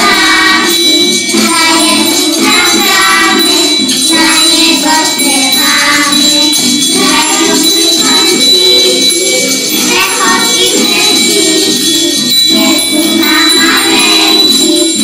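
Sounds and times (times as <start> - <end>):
chorus singing: 0.0 - 15.0
instrumental backing music: 0.0 - 15.0.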